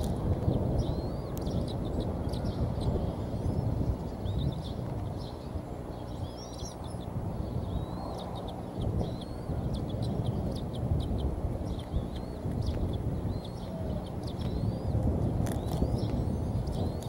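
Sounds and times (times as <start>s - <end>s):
eaglets chirping: 0.0s - 17.0s
low wind rumble: 0.0s - 17.0s.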